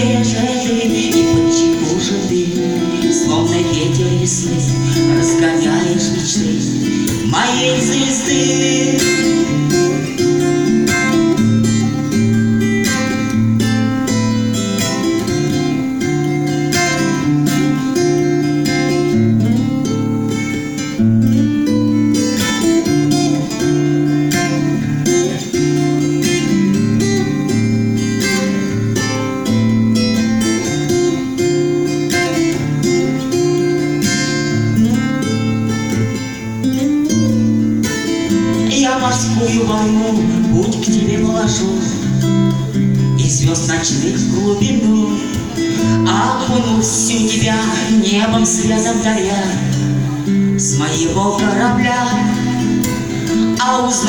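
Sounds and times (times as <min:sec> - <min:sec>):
acoustic guitar pop instrumental: 0:00.0 - 0:54.0.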